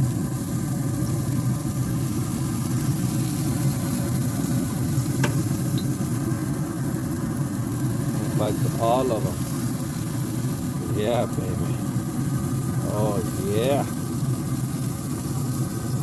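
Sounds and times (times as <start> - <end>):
chicken sizzling on a grill: 0.0 - 16.0
steady low rumble: 0.0 - 16.0.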